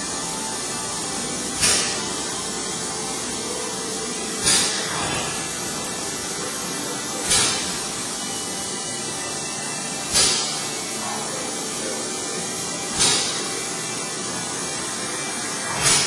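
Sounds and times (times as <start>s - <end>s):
milling machine hissing spray: 0.0s - 16.0s.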